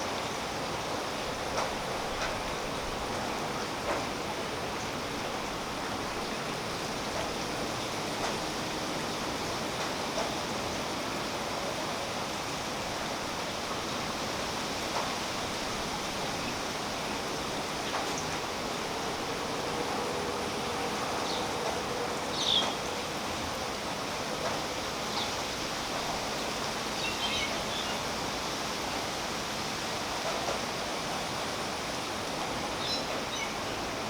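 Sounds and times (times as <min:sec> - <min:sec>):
rain falling through tree leaves: 0:00.0 - 0:34.0.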